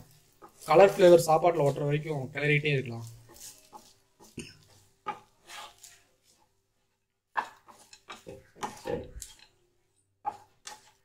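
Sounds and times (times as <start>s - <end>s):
wooden spatula scraping rice in pan: 0.0s - 9.6s, 10.2s - 11.0s.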